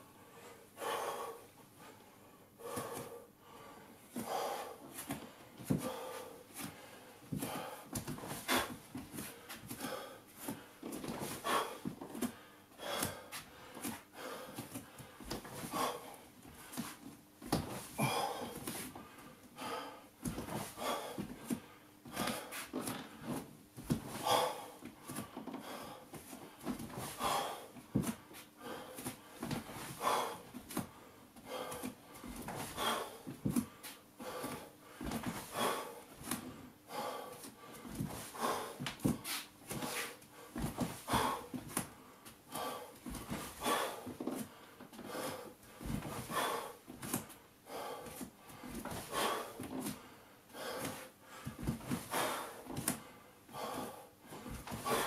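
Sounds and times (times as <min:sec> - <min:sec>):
man breathing hard: 0:00.0 - 0:55.0
knocks and rustles of movement: 0:04.1 - 0:19.1, 0:20.2 - 0:36.6, 0:37.3 - 0:42.4, 0:43.0 - 0:47.4, 0:48.0 - 0:50.0, 0:50.6 - 0:55.0.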